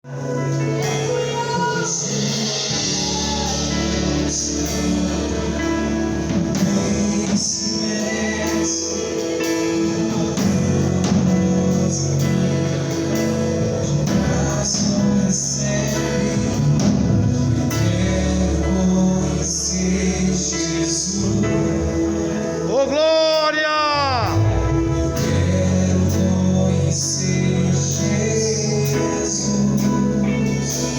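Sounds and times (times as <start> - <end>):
person singing: 0.0 - 30.9
worship band playing: 0.0 - 30.9.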